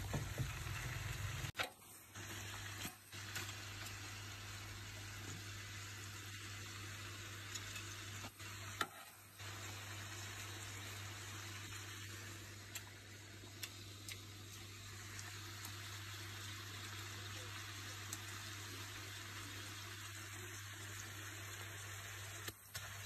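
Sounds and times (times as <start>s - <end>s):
meat sizzling in a pot: 0.0s - 23.0s.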